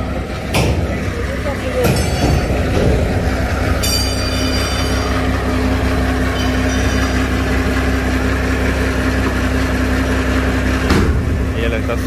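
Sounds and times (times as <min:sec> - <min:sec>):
forklift engine idling: 0:00.0 - 0:12.0.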